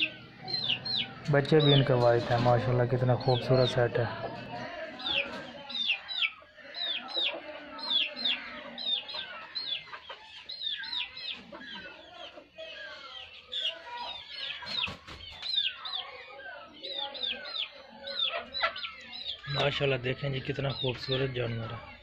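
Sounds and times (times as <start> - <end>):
chickens clucking: 0.0 - 22.0
chicks peeping: 0.0 - 22.0.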